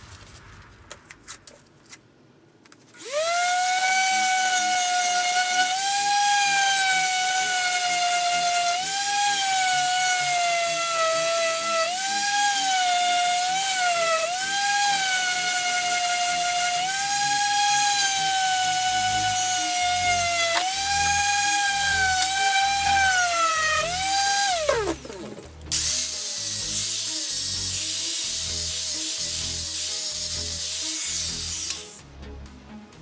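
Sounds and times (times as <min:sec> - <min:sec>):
rotary tool whining: 0:03.0 - 0:32.0.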